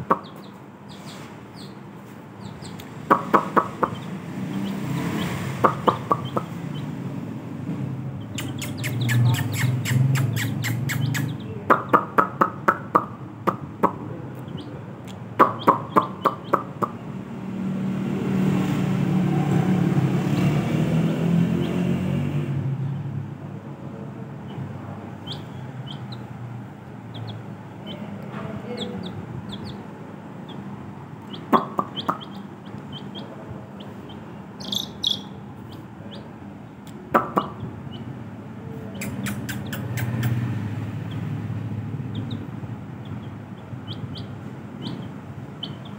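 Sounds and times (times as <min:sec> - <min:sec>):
chick peeping: 0:00.0 - 0:07.2, 0:08.2 - 0:17.2, 0:18.6 - 0:22.0, 0:24.3 - 0:45.9.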